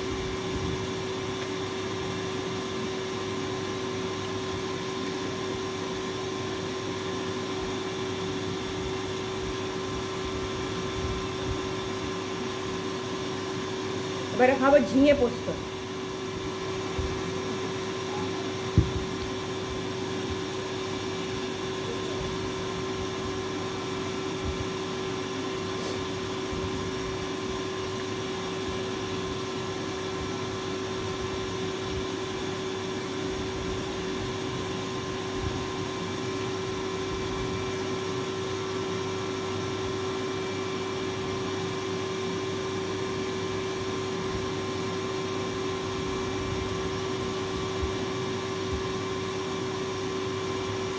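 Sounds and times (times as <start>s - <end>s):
electric water pump humming: 0.0s - 50.9s.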